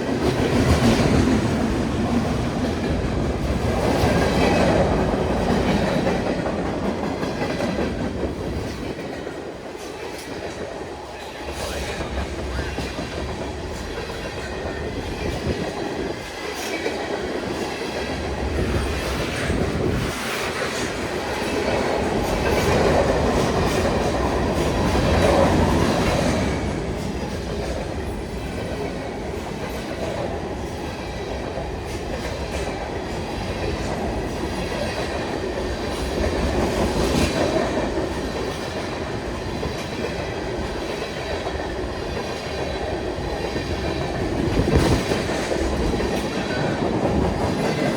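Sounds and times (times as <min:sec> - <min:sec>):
freight train wheels on rails: 0:00.0 - 0:47.9.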